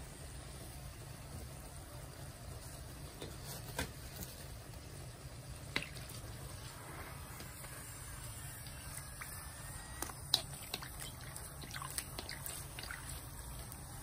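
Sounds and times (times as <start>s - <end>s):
oil sizzling in a wok: 0.0s - 14.0s.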